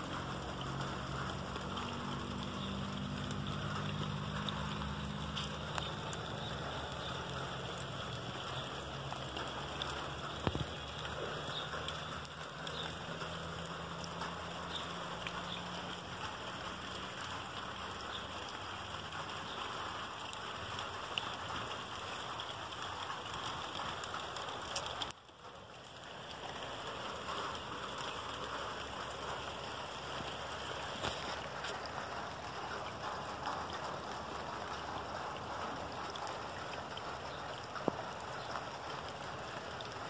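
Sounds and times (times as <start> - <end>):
water hissing over wet stones: 0.0 - 40.0.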